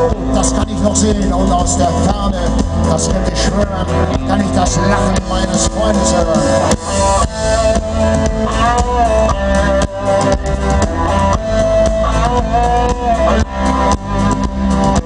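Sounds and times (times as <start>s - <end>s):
drum kit and bass: 0.0s - 15.0s
electric guitar lead: 0.0s - 15.0s.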